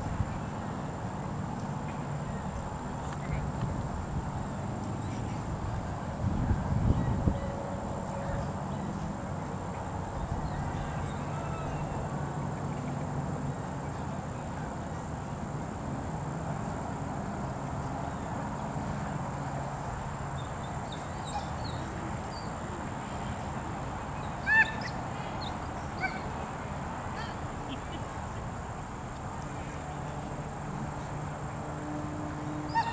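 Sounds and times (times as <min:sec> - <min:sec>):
open-air background noise: 0:00.0 - 0:32.9.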